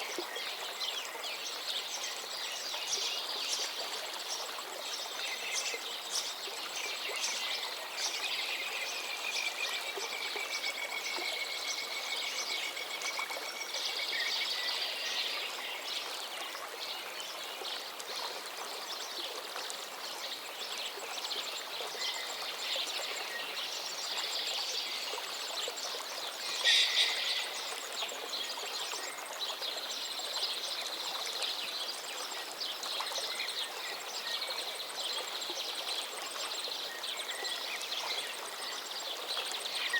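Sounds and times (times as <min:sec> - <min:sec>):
river running: 0:00.0 - 0:39.9
songbirds singing: 0:00.0 - 0:39.9.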